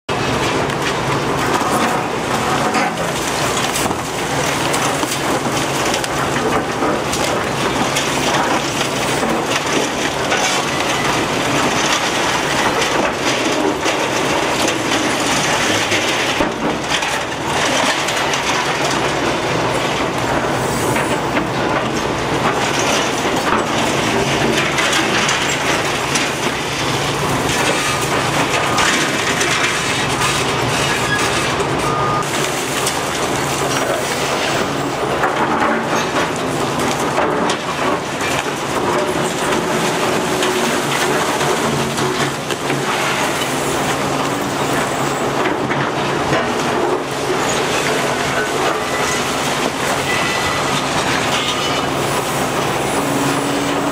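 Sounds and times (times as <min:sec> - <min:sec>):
excavator diesel engine: 0:00.1 - 0:53.9
concrete crunching and falling: 0:00.2 - 0:53.9.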